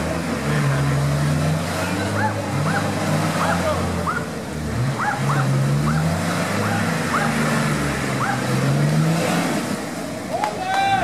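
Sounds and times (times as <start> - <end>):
engine revving: 0.0 - 10.4.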